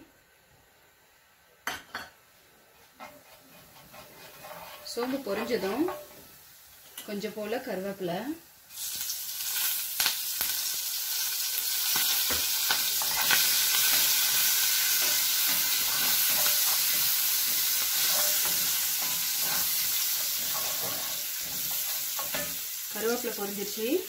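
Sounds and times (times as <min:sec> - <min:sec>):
leaves sizzling in hot oil: 0:02.4 - 0:24.0.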